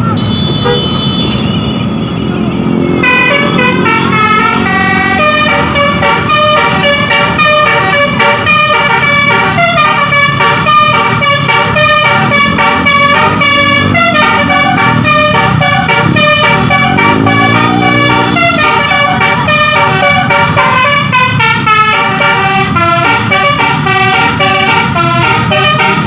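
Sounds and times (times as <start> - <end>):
musical air horn playing tune: 2.8 - 26.0.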